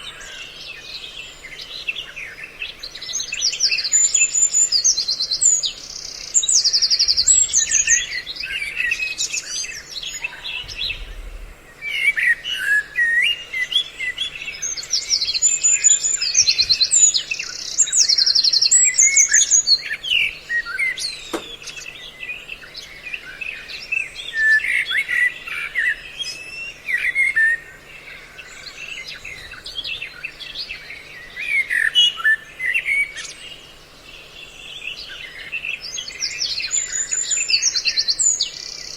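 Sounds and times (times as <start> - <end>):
songbirds calling: 0.0 - 38.9.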